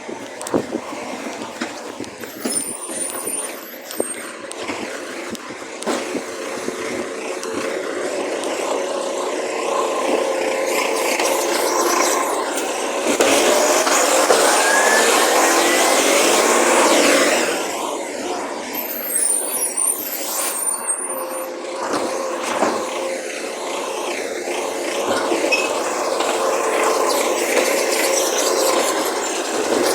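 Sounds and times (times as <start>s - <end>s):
rising whine: 0.0s - 29.8s
recycling truck engine running: 0.0s - 29.9s.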